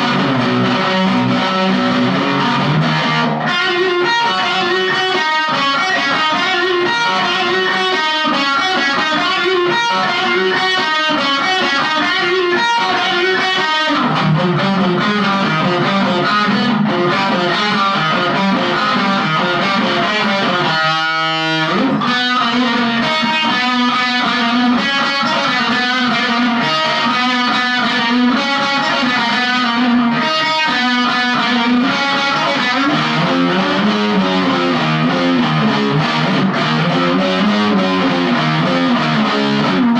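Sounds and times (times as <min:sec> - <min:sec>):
distorted electric guitar riff: 0:00.0 - 0:39.9.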